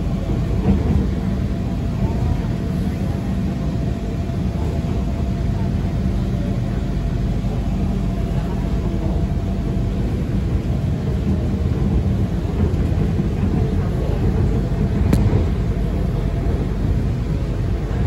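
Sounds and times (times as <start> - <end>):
monorail train rumbling: 0.0 - 18.0.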